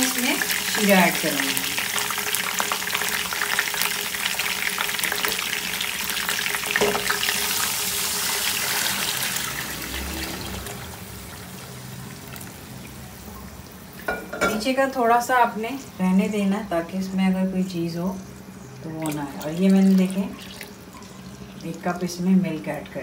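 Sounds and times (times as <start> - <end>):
oil sizzling and crackling: 0.0 - 15.3, 17.3 - 23.0.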